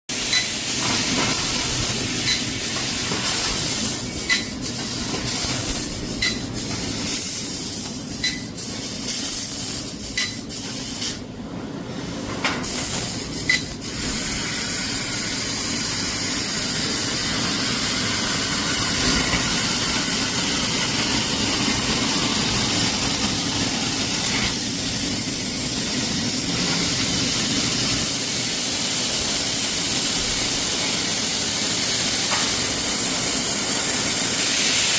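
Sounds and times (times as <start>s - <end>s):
laser cutter gas hissing: 0.1s - 11.2s, 12.6s - 34.9s.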